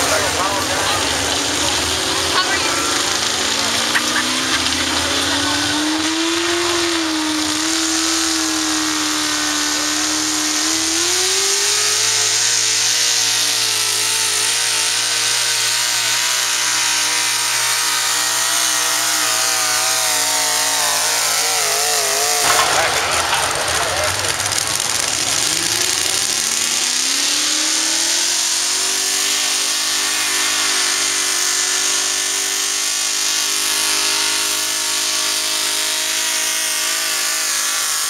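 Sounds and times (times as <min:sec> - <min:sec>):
tractor engine at high revs: 0:00.0 - 0:38.0.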